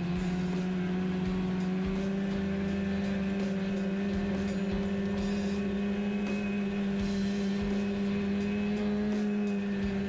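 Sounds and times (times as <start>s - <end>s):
snowmobile engine cruising: 0.0s - 10.0s.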